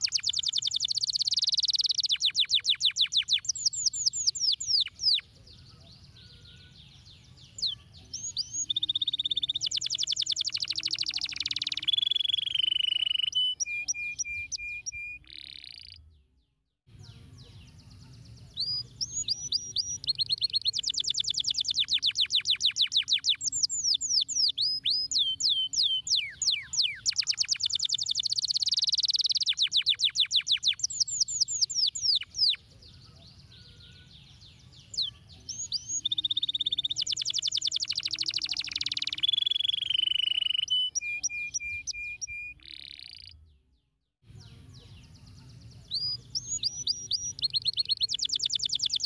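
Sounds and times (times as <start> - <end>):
canary singing trills: 0.0 - 16.1, 16.9 - 43.5, 44.3 - 49.0.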